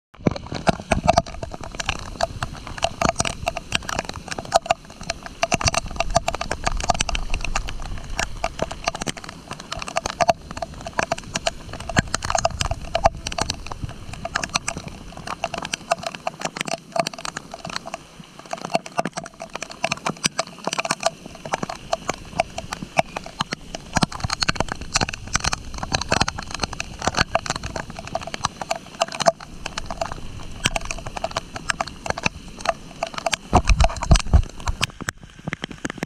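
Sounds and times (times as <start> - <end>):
raindrops tapping on rain suit: 0.2 - 36.0.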